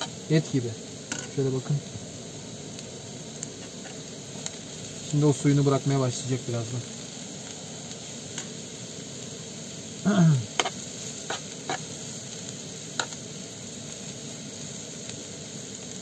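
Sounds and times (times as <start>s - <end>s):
food sizzling in pan: 0.0s - 16.0s.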